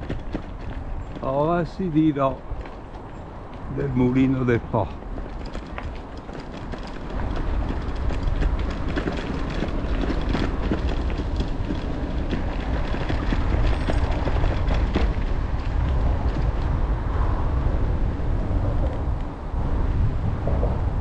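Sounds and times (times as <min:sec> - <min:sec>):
tyres crunching on gravel: 0:00.0 - 0:16.9
bike rattling: 0:00.0 - 0:21.0
low rumble: 0:00.8 - 0:21.0.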